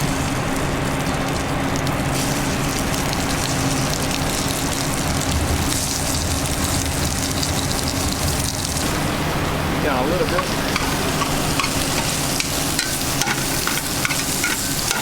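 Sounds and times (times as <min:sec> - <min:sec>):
kitchen equipment hum: 0:00.0 - 0:15.0
shrimp sizzling in a pan: 0:00.0 - 0:15.0.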